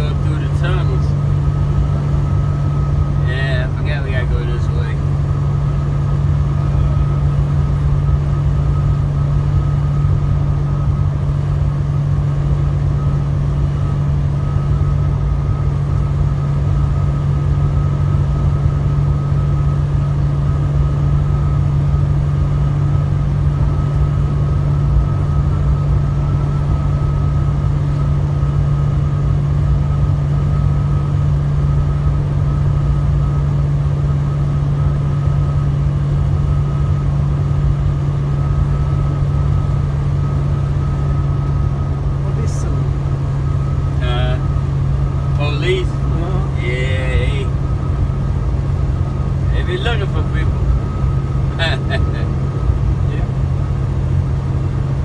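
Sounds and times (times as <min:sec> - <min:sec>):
truck engine and road noise: 0:00.0 - 0:55.0.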